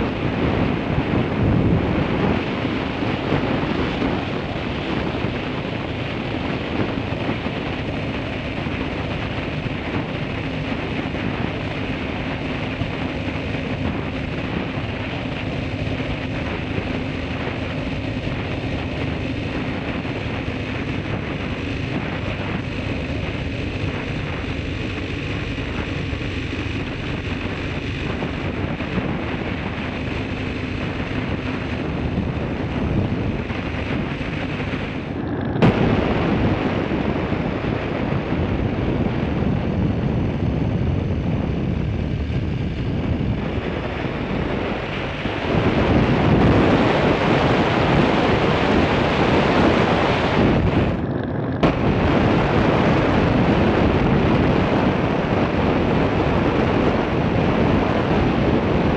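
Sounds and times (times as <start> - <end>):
motorcycle engine: 0.0 - 58.9
road noise: 0.0 - 58.9
wind rushing over microphone: 0.0 - 58.9.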